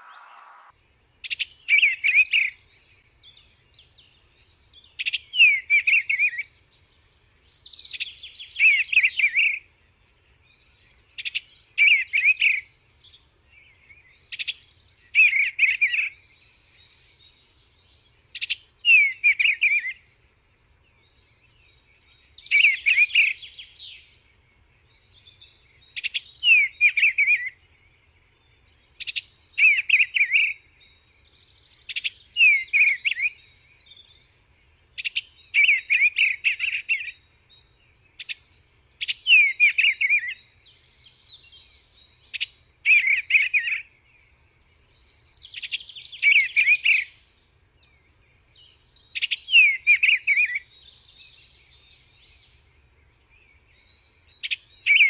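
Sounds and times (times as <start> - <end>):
bird singing falling chirps: 0.0 - 55.0.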